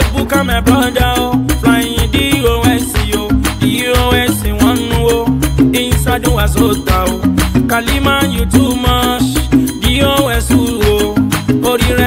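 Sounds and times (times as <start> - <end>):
upbeat afro-latin song: 0.0 - 12.0.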